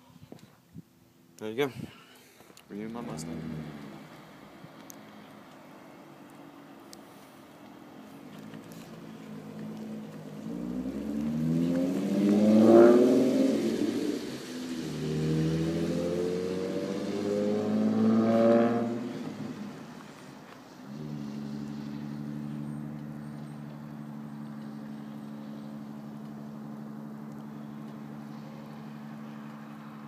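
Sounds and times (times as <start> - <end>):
car engine droning: 2.7 - 30.0.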